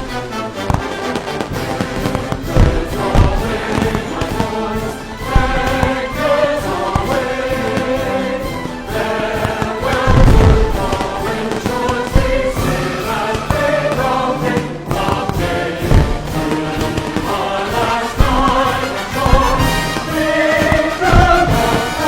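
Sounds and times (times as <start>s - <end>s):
heavy low thuds: 0.0s - 22.0s
music with singing: 0.0s - 22.0s.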